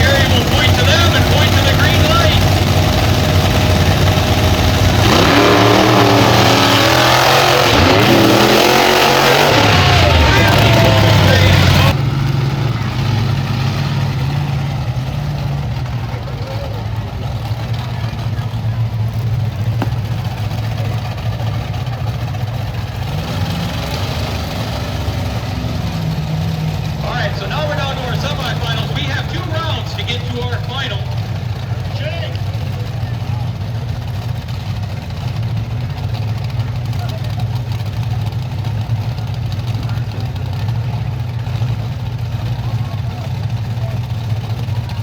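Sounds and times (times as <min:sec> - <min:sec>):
monster truck engines revving: 0:00.0 - 0:45.0.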